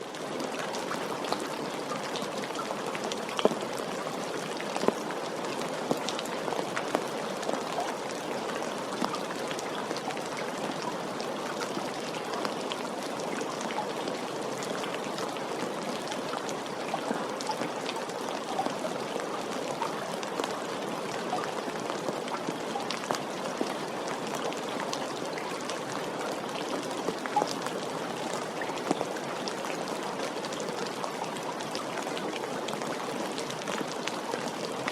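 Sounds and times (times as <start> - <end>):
raindrops ticking: 0.1 - 34.9.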